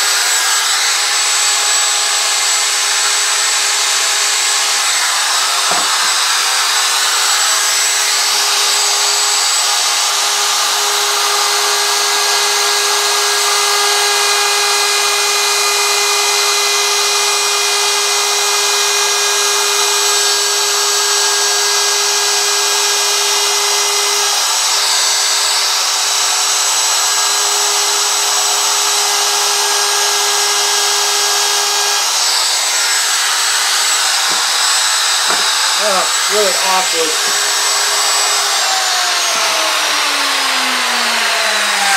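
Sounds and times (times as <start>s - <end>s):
router bit chewing wood: 0.0s - 41.9s
router high whine: 0.0s - 41.9s.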